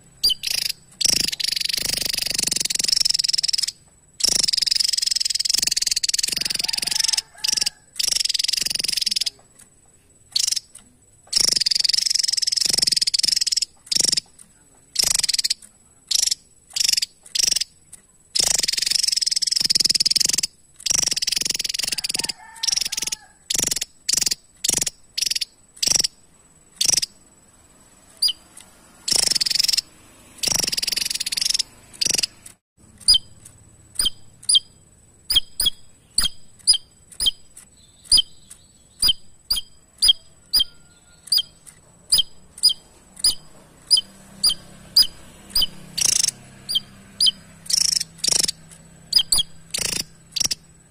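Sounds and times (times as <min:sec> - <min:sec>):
buzzy high-pitched bird trills: 0:00.0 - 0:50.9
short sharp bird chips: 0:00.2 - 0:27.3, 0:28.2 - 0:50.9.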